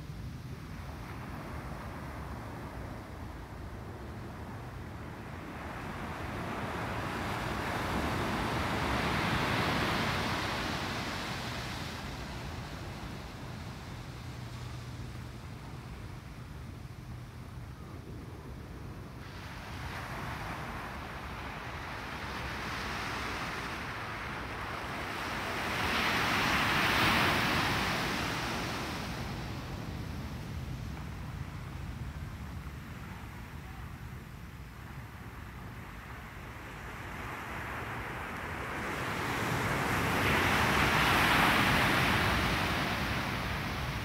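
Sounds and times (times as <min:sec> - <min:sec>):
ocean waves breaking on beach: 0:00.1 - 0:44.0.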